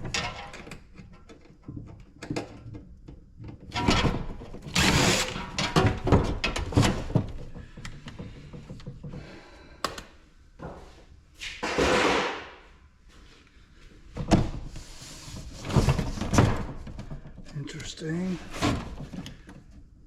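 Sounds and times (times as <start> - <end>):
parts knocking and clattering: 0.0 - 10.9, 14.1 - 20.0.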